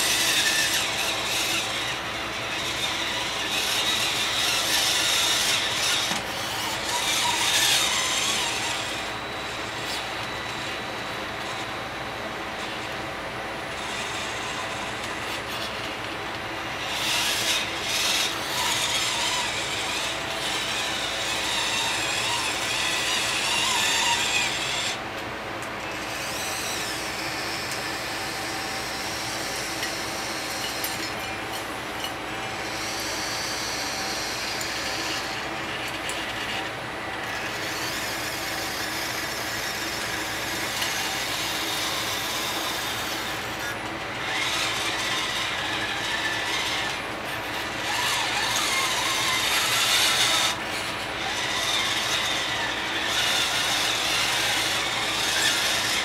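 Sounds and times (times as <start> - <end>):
toy truck motor whirring: 0.0 - 25.0, 25.8 - 56.0.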